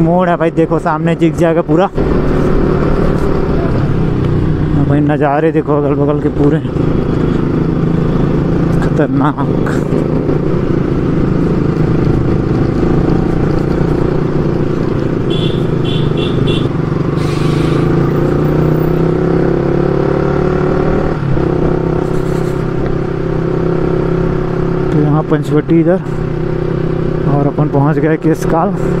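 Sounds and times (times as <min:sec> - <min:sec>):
motorcycle engine running: 0:01.8 - 0:29.0.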